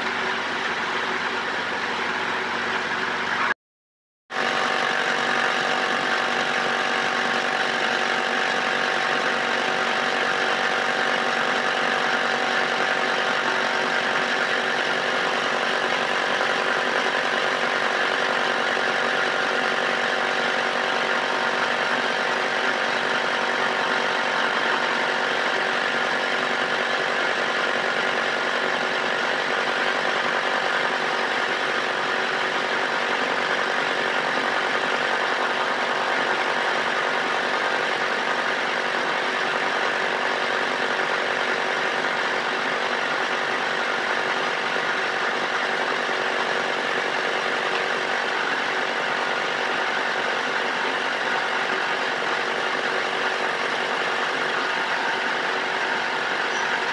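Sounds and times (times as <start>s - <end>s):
motor running with whine: 4.4s - 56.9s.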